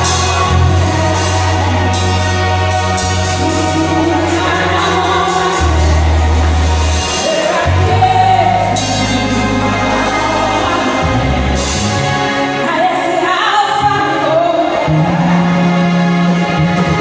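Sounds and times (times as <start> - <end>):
woman singing gospel: 0.0 - 11.6, 12.6 - 15.4
backing music: 0.0 - 17.0
held bass notes: 0.0 - 17.0.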